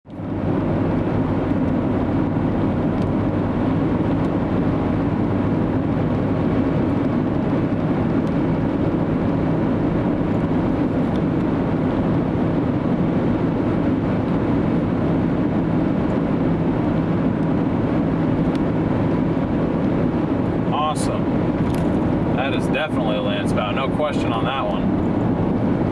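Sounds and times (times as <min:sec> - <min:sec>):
vehicle road and engine drone: 0:00.0 - 0:25.9.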